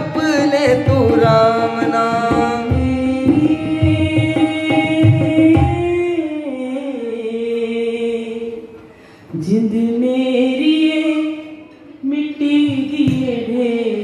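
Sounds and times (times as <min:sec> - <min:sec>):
woman singing a chant: 0:00.0 - 0:14.0.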